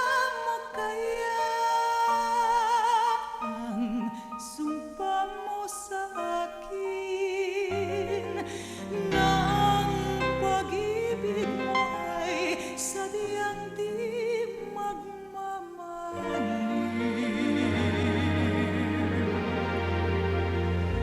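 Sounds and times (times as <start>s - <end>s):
slow tender melody: 0.0s - 21.0s.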